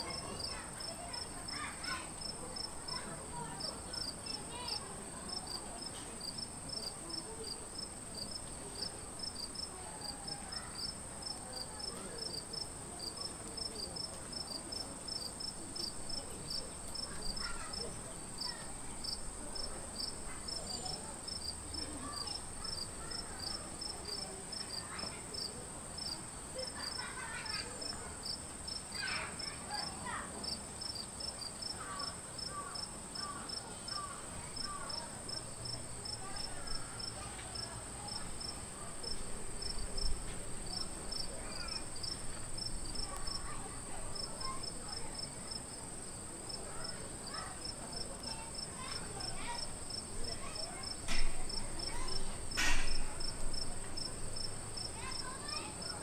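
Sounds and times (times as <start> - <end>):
regular insect chirp: 0.0 - 56.0
insects trilling: 0.1 - 56.0.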